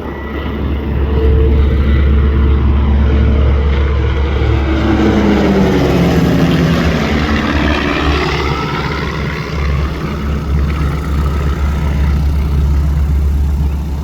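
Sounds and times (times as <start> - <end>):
propeller aircraft flyby: 0.0 - 14.0
steady low rumble: 0.0 - 14.0.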